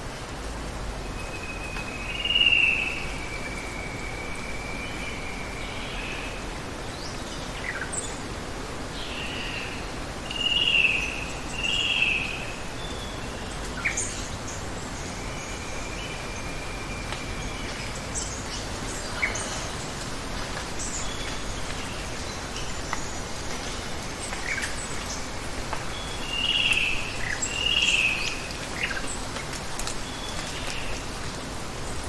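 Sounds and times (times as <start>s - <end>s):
running water hiss: 0.0s - 32.0s.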